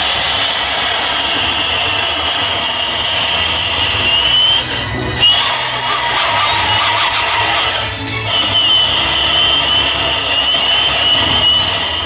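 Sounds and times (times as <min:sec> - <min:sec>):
wheel squealing on rail: 0:00.0 - 0:12.0.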